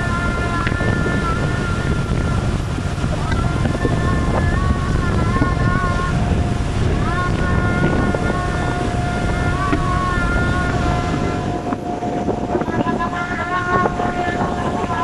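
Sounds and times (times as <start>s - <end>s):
motorboat engine running: 0.0s - 15.0s
water rushing past hull: 0.0s - 15.0s
wavering high tone: 0.0s - 15.0s
wind buffeting microphone: 0.0s - 15.0s.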